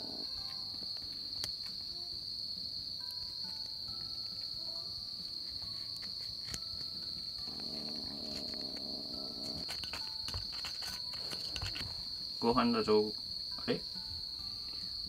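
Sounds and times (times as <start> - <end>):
insects trilling: 0.0 - 15.0
soft background music: 0.0 - 15.0.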